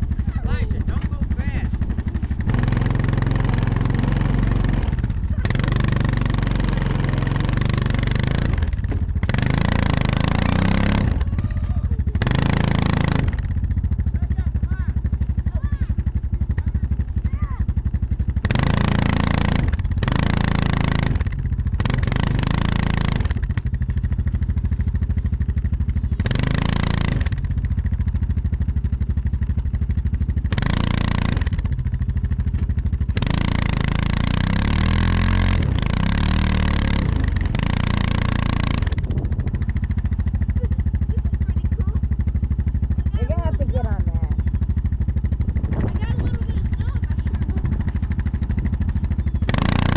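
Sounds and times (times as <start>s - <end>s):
atv engine idling and revving: 0.0s - 49.9s.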